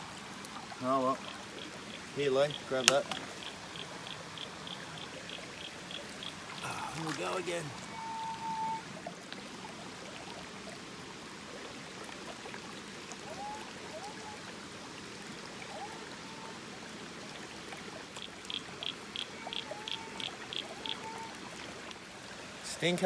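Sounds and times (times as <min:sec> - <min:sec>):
waterfall into pond: 0:00.0 - 0:23.0.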